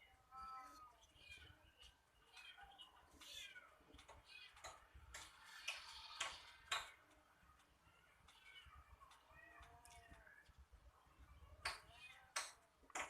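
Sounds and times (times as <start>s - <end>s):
cats meowing faintly: 0.0s - 6.9s, 7.5s - 12.6s.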